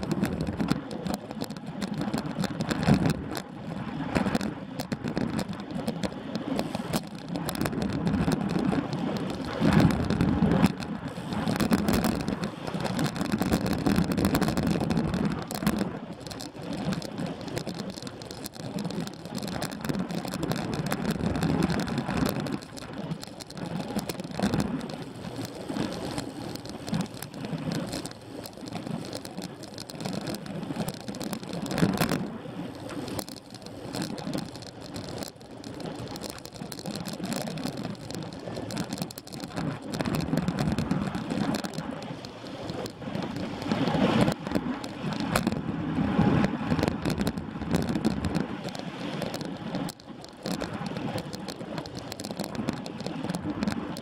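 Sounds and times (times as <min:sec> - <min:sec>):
bicycle tyre and road noise: 0:00.0 - 0:54.0
small rattles: 0:00.0 - 0:54.0.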